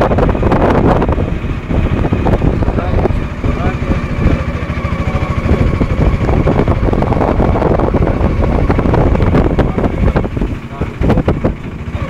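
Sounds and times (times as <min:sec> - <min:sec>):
auto-rickshaw engine running: 0:00.0 - 0:12.0
wind noise on microphone: 0:00.0 - 0:12.0.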